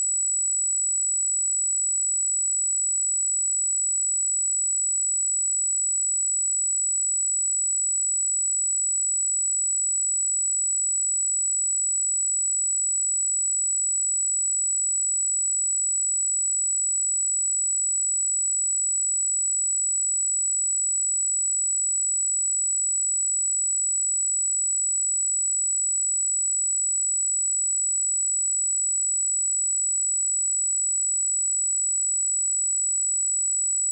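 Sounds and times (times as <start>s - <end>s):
high-pitched sine test tone: 0.0s - 33.9s.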